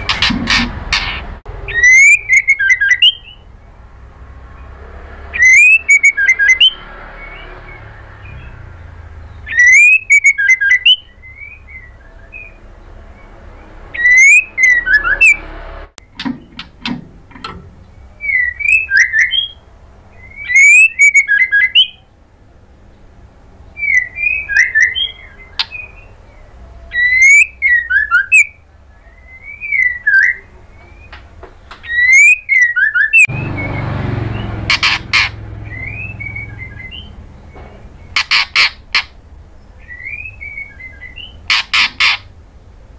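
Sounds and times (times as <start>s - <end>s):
bird calling with whistles and chatter: 0.0s - 3.6s, 5.3s - 15.4s, 17.4s - 22.1s, 23.7s - 42.4s.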